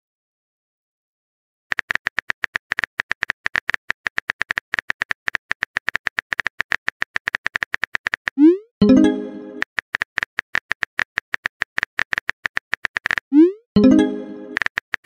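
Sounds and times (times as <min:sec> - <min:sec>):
keyboard typing clicks: 0:01.7 - 0:15.0.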